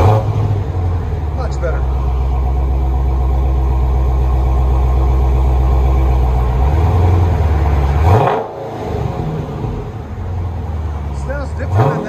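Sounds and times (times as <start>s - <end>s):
car engine idling: 0.0s - 12.0s
engine revving: 0.0s - 12.0s.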